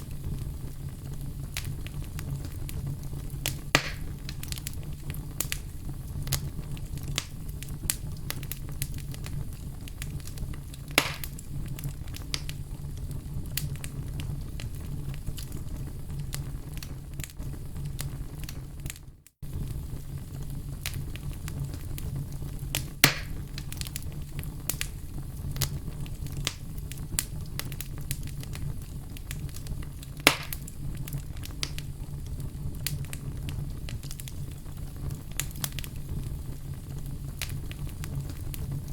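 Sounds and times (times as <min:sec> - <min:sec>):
loud fire pops: 0:00.0 - 0:38.9
low rumble of flames: 0:00.0 - 0:38.9
wood fire crackling: 0:00.0 - 0:38.9.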